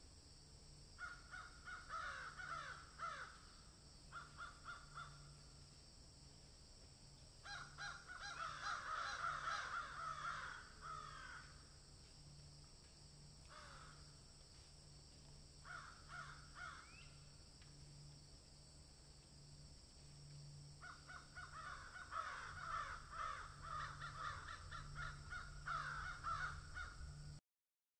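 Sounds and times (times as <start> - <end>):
faint background hum: 0.0 - 27.4.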